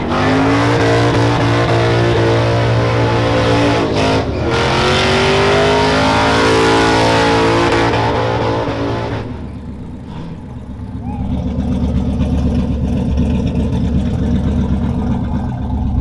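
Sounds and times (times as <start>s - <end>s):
truck engine at high revs: 0.0s - 16.0s.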